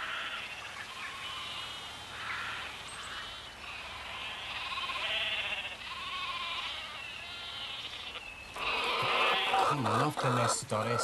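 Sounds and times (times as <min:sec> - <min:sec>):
hens squawking: 0:00.0 - 0:11.0.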